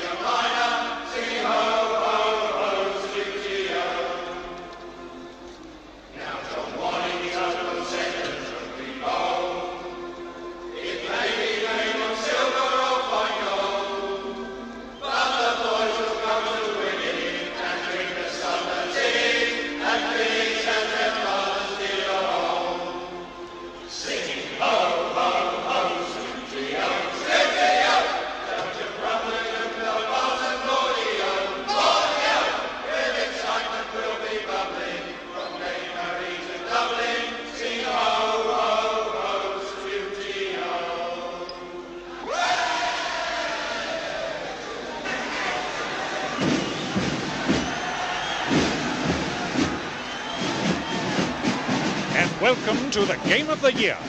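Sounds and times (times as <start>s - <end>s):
football crowd chanting: 0.0s - 5.3s, 6.1s - 54.0s.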